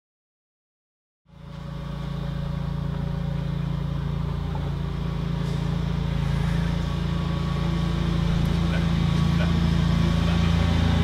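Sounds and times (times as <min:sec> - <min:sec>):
engine idling: 0:01.3 - 0:11.0.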